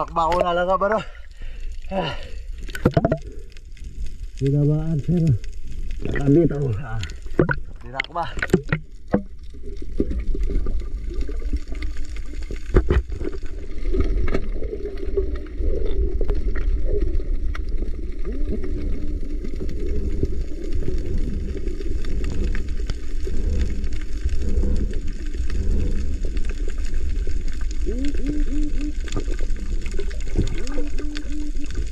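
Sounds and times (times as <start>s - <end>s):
bubbling and gurgling: 0.0s - 31.9s
underwater rumble of moving water: 0.0s - 31.9s.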